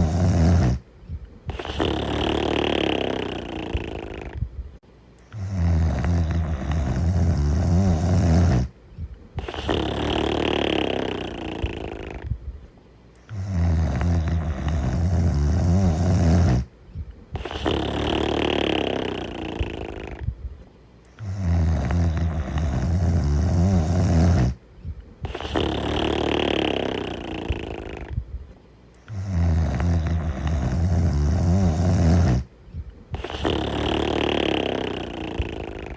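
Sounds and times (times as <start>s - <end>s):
cartoon snoring: 0.0s - 0.8s, 1.5s - 4.4s, 5.3s - 8.8s, 9.4s - 12.4s, 13.2s - 16.7s, 17.4s - 20.3s, 21.2s - 24.6s, 25.2s - 28.2s, 29.0s - 32.5s, 33.1s - 35.9s.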